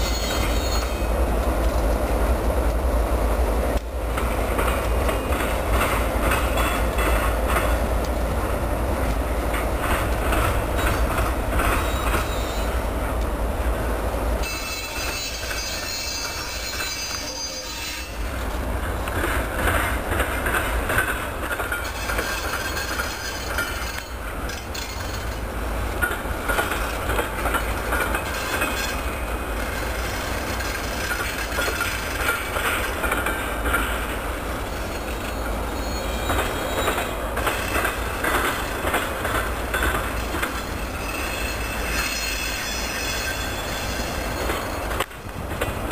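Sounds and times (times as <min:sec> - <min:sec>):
train wheels squealing on rails: 0:00.0 - 0:01.2, 0:05.1 - 0:07.9, 0:09.5 - 0:13.1, 0:13.7 - 0:45.9
low rumble of train engines: 0:00.0 - 0:45.9.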